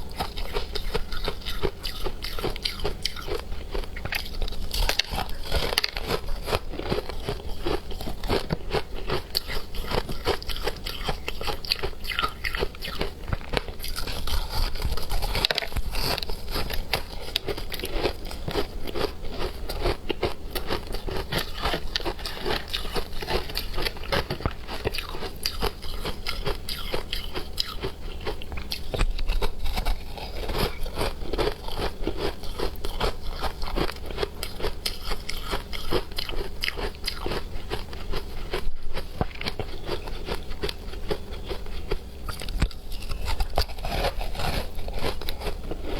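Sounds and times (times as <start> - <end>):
ice being bitten and chewed: 0.0 - 45.9.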